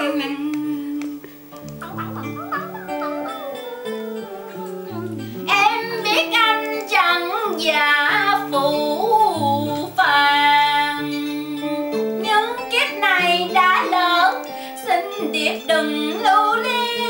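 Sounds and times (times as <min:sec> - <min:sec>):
woman singing into a microphone: 0:00.0 - 0:01.5, 0:03.4 - 0:17.0
backing music track: 0:00.0 - 0:17.0.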